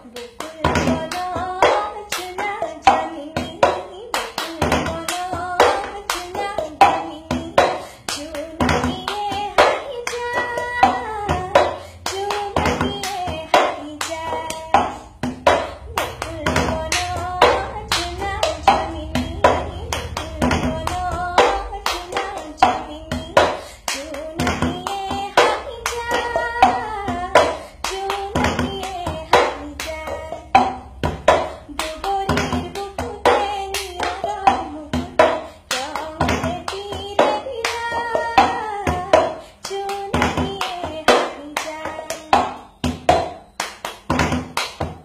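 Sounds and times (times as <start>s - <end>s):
woman singing: 0.0s - 44.9s
hand claps: 0.1s - 45.0s.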